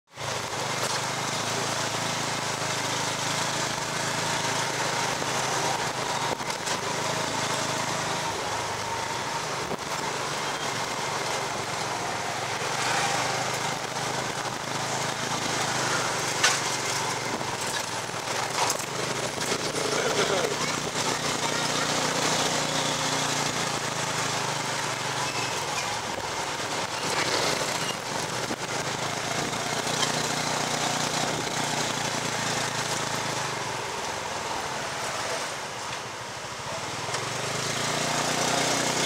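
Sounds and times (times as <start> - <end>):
small motorcycle engine running: 0.1 - 35.6, 36.6 - 39.0
passing scooters: 0.2 - 39.0.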